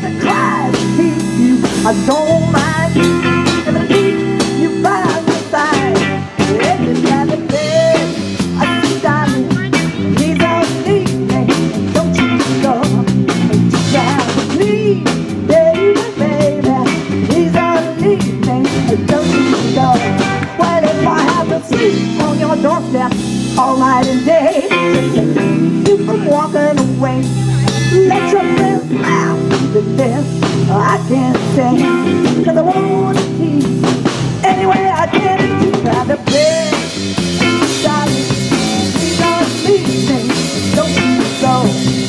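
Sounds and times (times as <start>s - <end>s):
bass guitar: 0.0s - 42.0s
drum kit steady beat: 0.0s - 42.0s
electric guitar: 0.0s - 42.0s.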